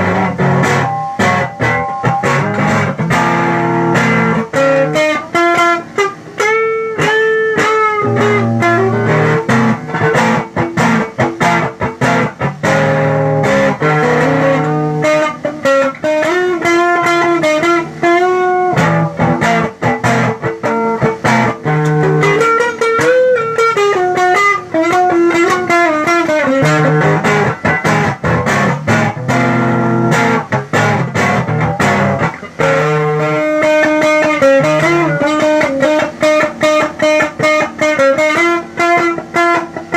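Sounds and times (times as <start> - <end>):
electric guitar melody: 0.0 - 39.9.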